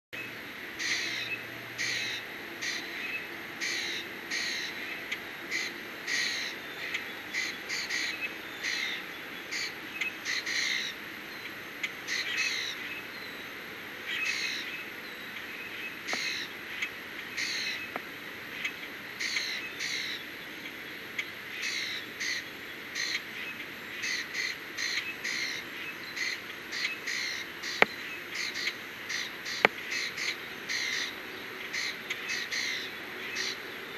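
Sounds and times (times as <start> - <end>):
birds making harsh calls: 0.8 - 11.0, 14.1 - 20.3, 21.2 - 33.8.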